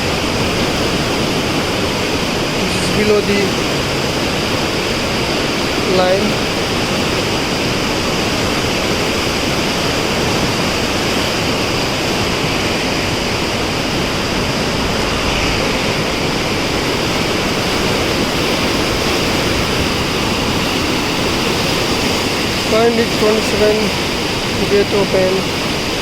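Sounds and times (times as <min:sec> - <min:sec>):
rushing white water: 0:00.0 - 0:26.0.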